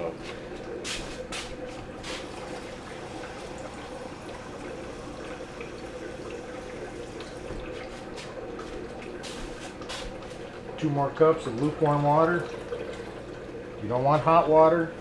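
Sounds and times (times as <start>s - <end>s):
water trickling: 0.0s - 14.7s.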